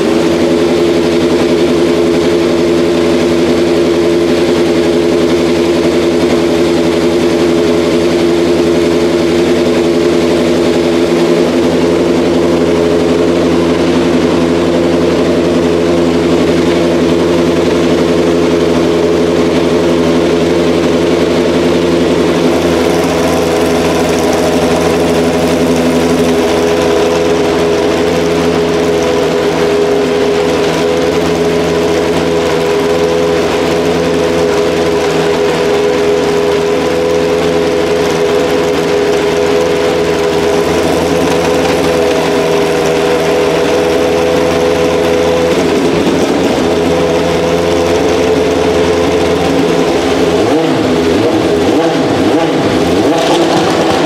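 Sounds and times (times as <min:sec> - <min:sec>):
racing car engine idling: 0:00.0 - 0:54.0.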